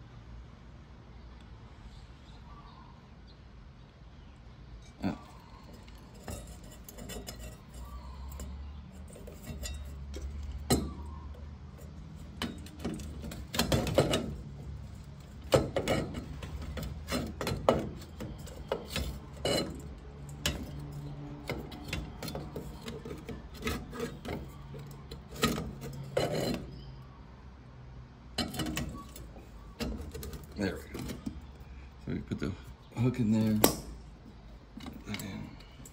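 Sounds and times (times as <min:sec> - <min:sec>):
low steady hum: 0:00.0 - 0:35.9
metal headlamp parts scraping: 0:04.8 - 0:27.0, 0:28.3 - 0:32.0, 0:32.6 - 0:35.9.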